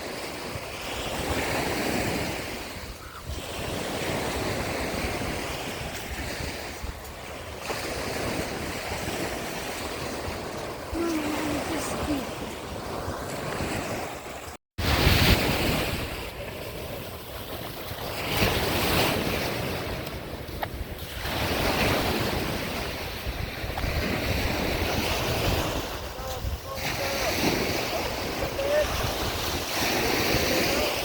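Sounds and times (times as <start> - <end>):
surf washing onto beach: 0.0 - 31.0
wind buffeting microphone: 0.0 - 31.0.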